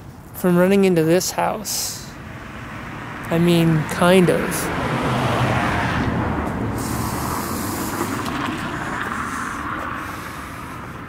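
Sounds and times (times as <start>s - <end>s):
passing car road noise: 1.0s - 11.0s.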